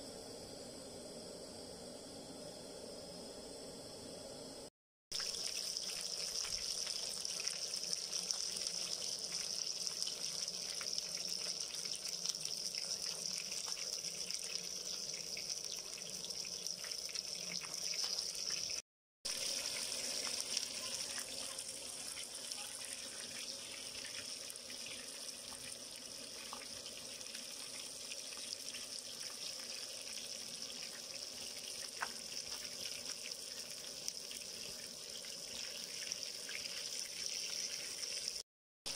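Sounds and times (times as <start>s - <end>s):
fish sizzling in hot oil: 5.1s - 38.9s.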